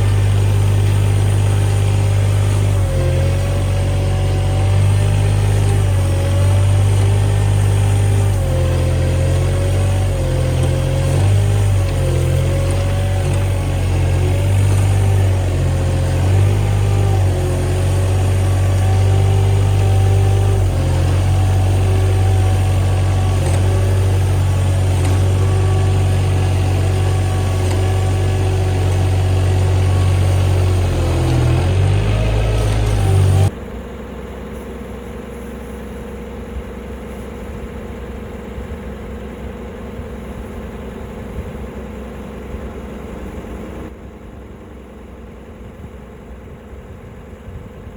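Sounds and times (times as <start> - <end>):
machine engine running: 0.0 - 47.9.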